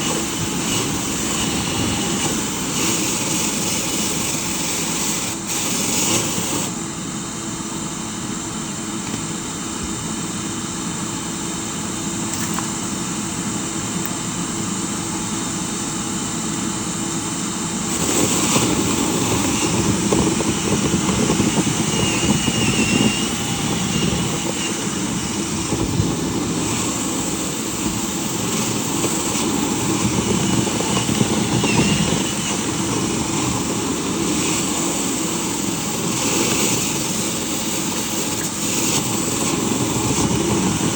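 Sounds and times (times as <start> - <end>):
cleaning machine motor whine: 0.0 - 40.9.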